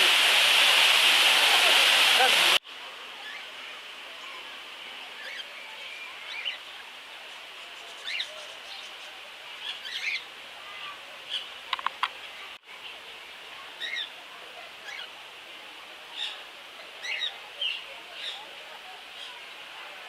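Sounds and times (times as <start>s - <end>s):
high background hiss: 0.0s - 20.0s.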